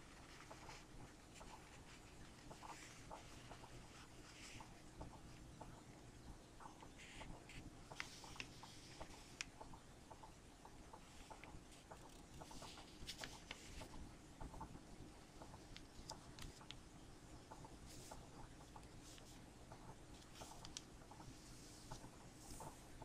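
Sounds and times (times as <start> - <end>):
paper rustling and ticking: 0.0 - 5.8, 6.6 - 16.8, 17.4 - 23.0.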